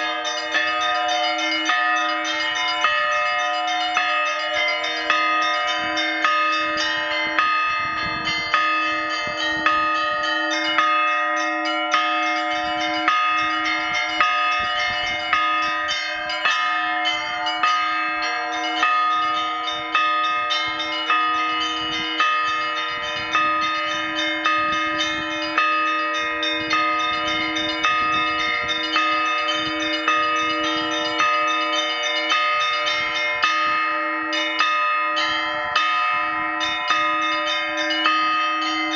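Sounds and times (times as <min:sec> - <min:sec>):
large church bell strokes: 0:00.0 - 0:38.9
small bells chiming: 0:00.0 - 0:38.9.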